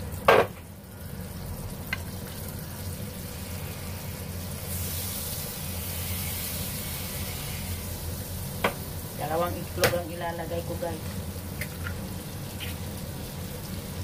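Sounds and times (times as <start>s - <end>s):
sausage sizzling in a wok: 0.0s - 14.0s.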